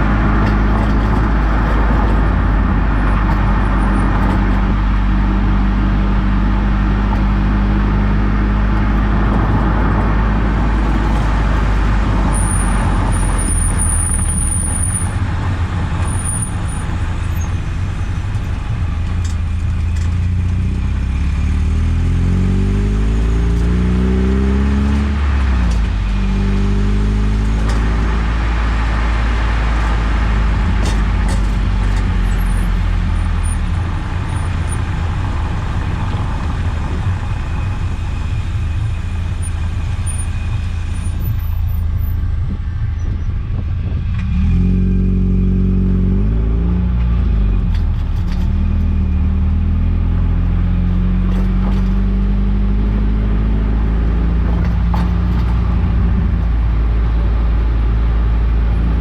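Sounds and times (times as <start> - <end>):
car engine drone: 0.0 - 59.0
road and tyre noise: 0.0 - 59.0.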